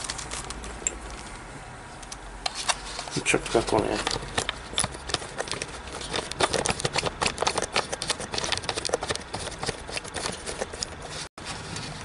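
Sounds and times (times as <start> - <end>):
handling clicks and rustles: 0.0 - 12.0.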